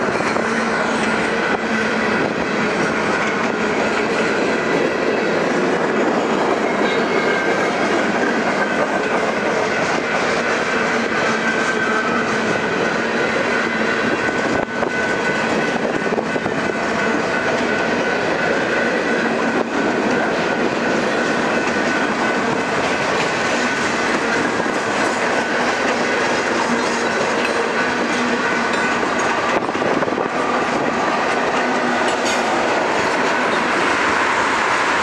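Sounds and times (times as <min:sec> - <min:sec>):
high wheel squeal: 0:00.0 - 0:35.0.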